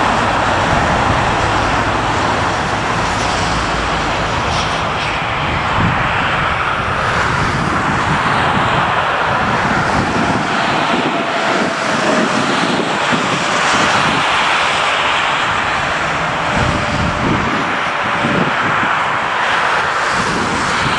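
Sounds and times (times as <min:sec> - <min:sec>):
jet engines roaring: 0:00.0 - 0:20.9.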